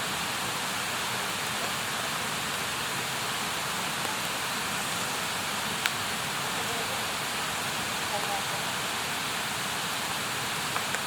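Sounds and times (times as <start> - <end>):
campfire hissing: 0.0 - 11.0.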